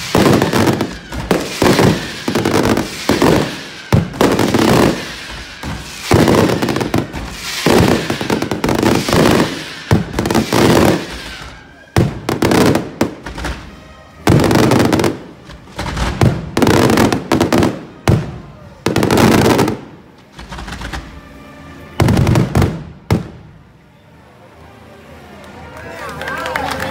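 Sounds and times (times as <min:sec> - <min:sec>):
firework bangs and crackling: 0:00.0 - 0:23.8.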